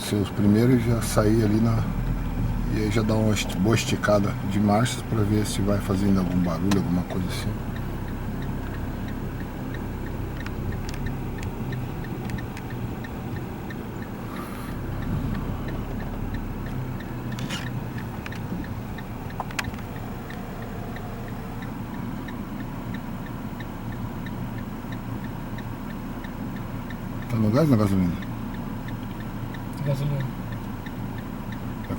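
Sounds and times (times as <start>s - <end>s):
air conditioning: 0.0s - 31.9s
car engine idling: 0.0s - 31.9s
light ticking: 0.0s - 31.9s.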